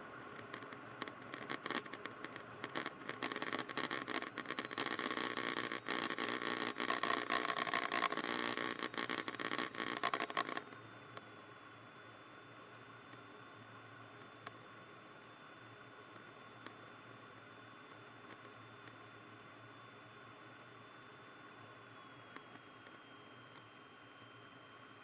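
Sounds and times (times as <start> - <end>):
crackly intercom hiss with clicks: 0.0 - 25.0.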